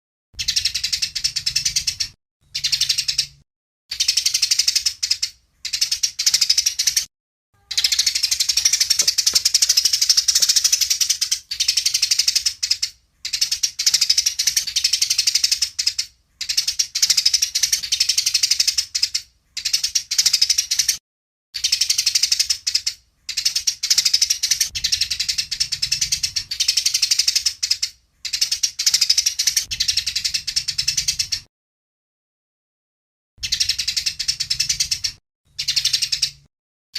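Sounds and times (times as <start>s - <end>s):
sparrows chirping: 0.4s - 21.0s, 21.6s - 31.5s, 33.4s - 36.5s.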